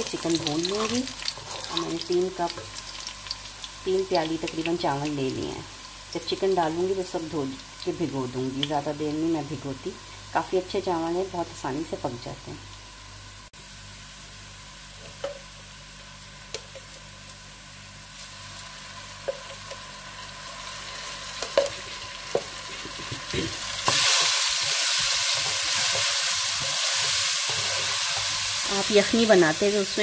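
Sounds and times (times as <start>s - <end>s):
onions sizzling in hot oil: 0.0s - 30.0s.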